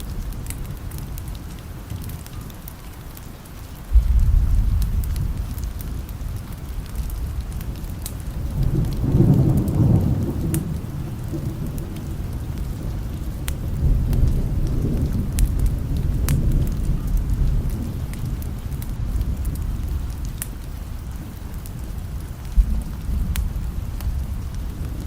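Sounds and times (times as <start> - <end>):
steady rain: 0.0 - 25.0
wood fire crackling: 0.0 - 25.0
thunder rumbling: 3.9 - 25.0.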